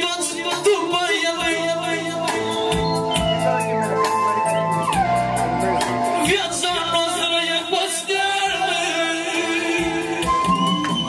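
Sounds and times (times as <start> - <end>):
man singing into microphone: 0.0 - 4.3, 5.8 - 10.6
drum machine beat: 0.0 - 7.3, 9.3 - 11.0
electronic keyboard: 0.0 - 11.0.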